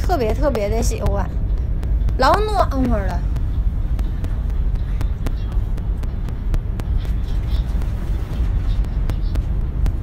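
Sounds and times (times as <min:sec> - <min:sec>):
vehicle cabin rumble: 0:00.0 - 0:10.0.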